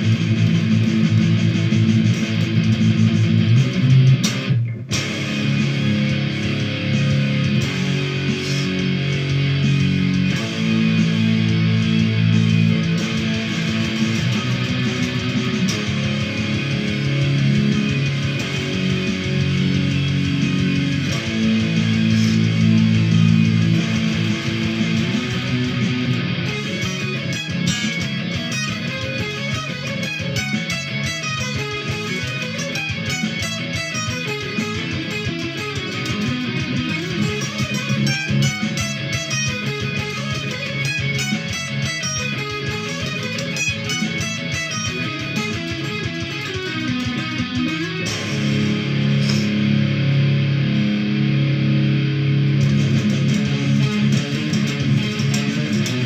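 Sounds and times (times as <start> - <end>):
electric guitar playing metal: 0.0 - 56.0.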